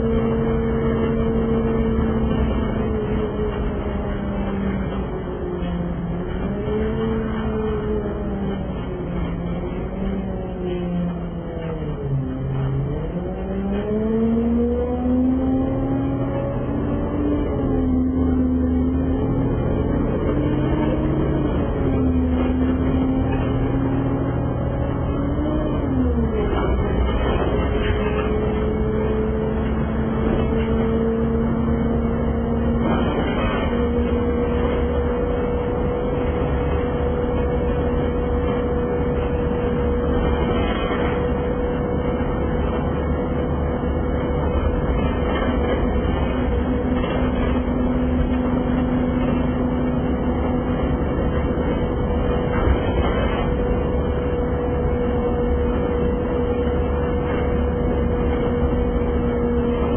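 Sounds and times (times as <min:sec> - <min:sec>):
bus engine and road rumble: 0:00.0 - 0:59.9
pitched drone: 0:00.0 - 0:59.9.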